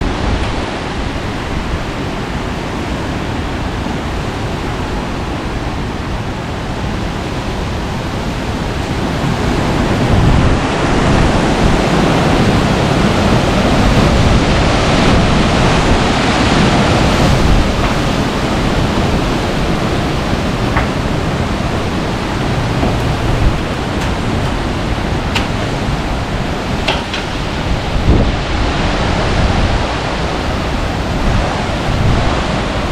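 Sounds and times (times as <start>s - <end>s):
storm wind rushing: 0.0s - 32.9s.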